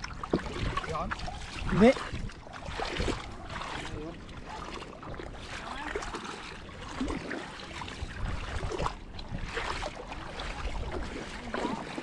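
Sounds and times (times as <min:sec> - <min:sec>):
seawater sloshing and splashing: 0:00.0 - 0:12.0
wind rumbling on microphone: 0:00.0 - 0:12.0.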